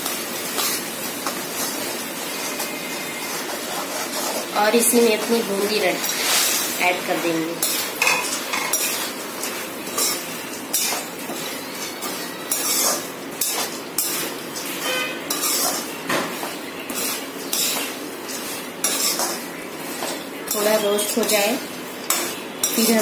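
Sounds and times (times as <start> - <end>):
metal ladle scraping a pan: 0.6 - 5.4, 6.0 - 6.8, 7.6 - 21.5.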